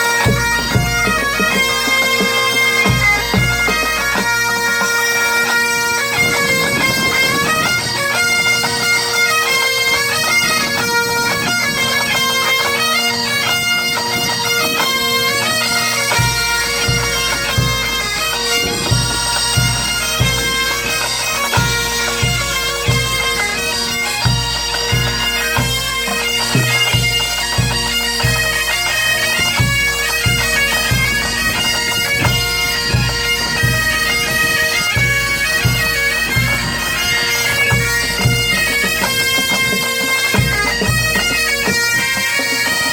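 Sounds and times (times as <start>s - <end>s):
bagpipes melody over drone: 0.0s - 42.9s.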